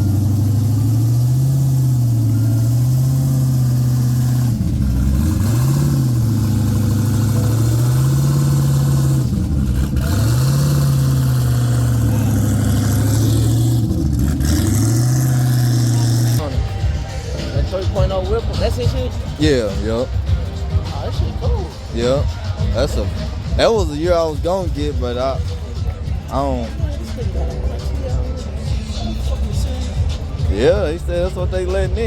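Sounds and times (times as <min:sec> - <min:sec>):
car engine droning at high revs: 0:00.0 - 0:32.0.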